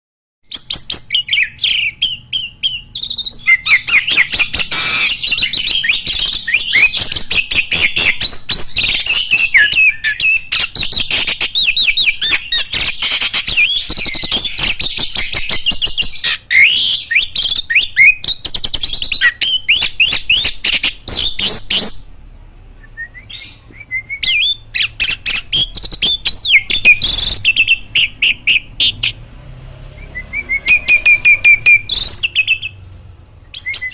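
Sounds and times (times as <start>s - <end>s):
starlings singing: 0.5s - 22.1s, 23.0s - 33.9s.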